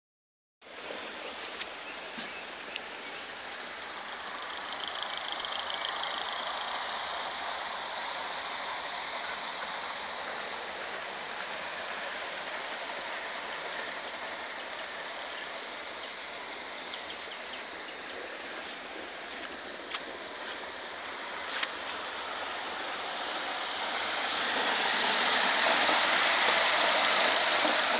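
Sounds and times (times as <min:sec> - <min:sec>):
steam exhaust hiss: 0:00.6 - 0:27.9
wheels rolling on rails: 0:00.6 - 0:27.9.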